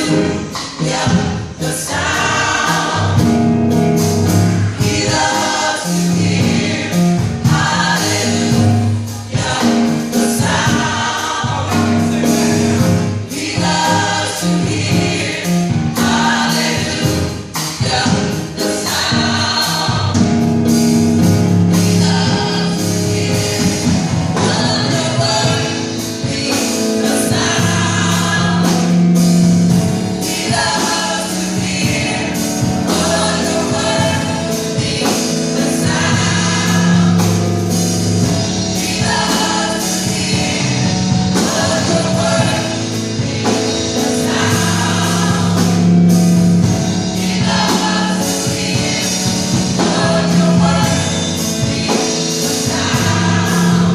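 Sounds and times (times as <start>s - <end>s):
choir singing: 0.0s - 53.9s
percussion beats: 0.0s - 53.9s.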